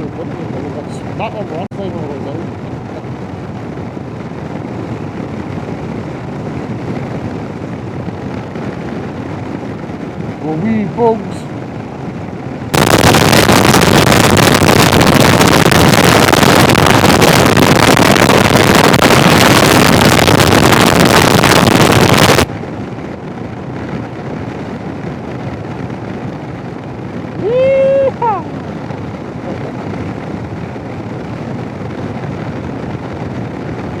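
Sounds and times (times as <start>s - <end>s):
loud wind noise on microphone: 0.0s - 34.0s
motorcycle riding noise: 0.0s - 34.0s.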